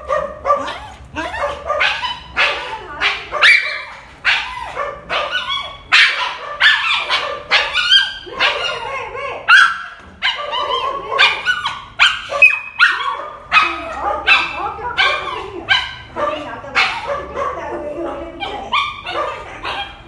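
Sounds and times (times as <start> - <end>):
dog whining: 0.0 - 2.7, 3.4 - 17.4.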